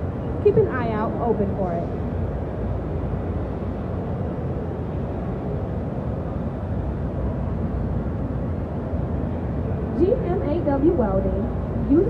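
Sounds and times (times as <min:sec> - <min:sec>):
low hum and rumble of a hall: 0:00.0 - 0:12.0.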